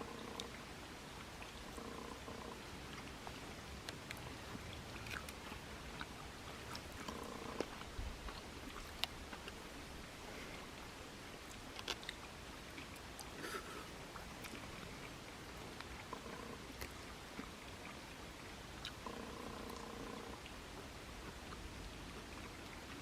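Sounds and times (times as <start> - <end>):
people chewing softly: 0.0 - 0.6, 1.2 - 23.0
faint steady hiss: 0.0 - 23.0.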